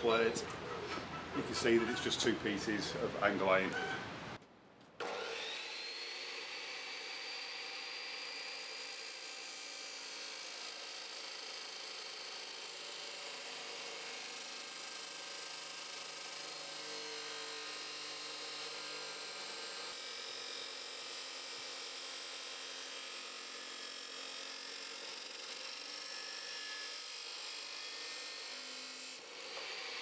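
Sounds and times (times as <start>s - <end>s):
cut-off saw grinding metal: 5.0s - 30.0s.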